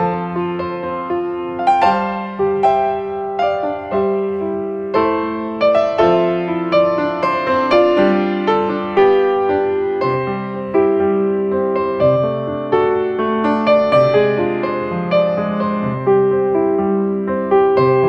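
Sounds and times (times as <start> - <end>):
gentle piano tune: 0.0 - 18.0.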